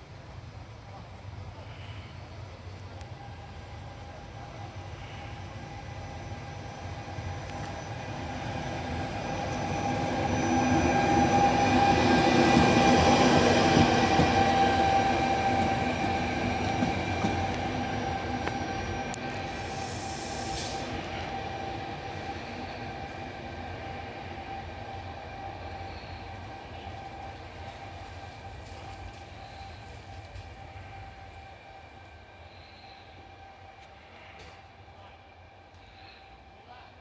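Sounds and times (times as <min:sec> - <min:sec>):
electric locomotive passing: 0:00.0 - 0:37.0.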